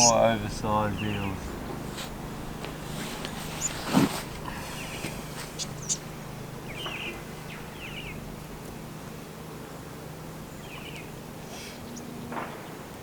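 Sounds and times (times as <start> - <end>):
bird chirping: 0.0 - 9.8, 10.4 - 12.3
faint low hum: 0.0 - 13.0.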